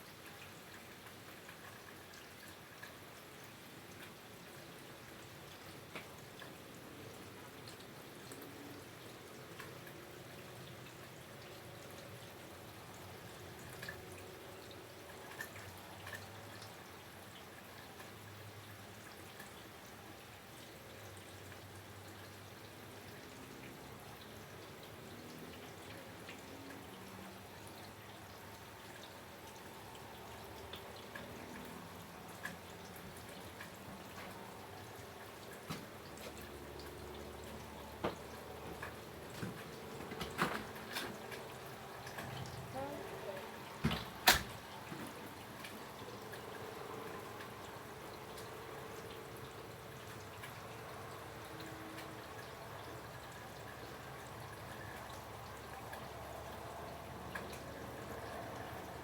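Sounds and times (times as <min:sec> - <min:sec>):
faint steady rain: 0:00.0 - 0:59.0.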